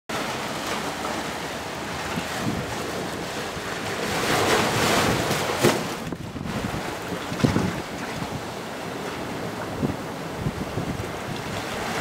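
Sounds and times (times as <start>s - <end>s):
surf washing among rocks: 0.1s - 12.0s
wave splashing against rock: 0.1s - 12.0s.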